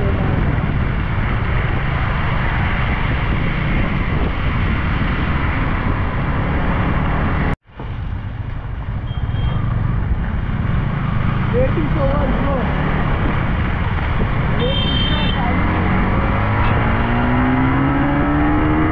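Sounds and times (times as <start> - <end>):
wind rush on microphone: 0.0 - 8.9, 9.6 - 18.9
motorcycle engine rumble: 0.0 - 18.9.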